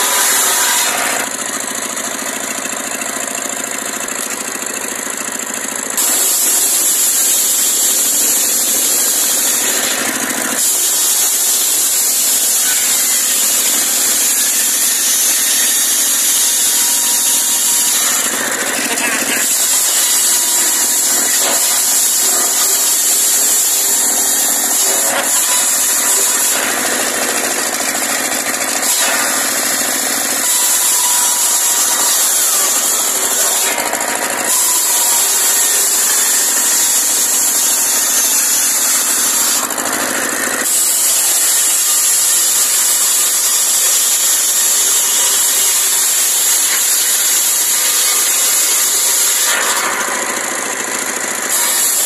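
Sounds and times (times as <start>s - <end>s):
circular saw cutting log: 0.0s - 52.0s.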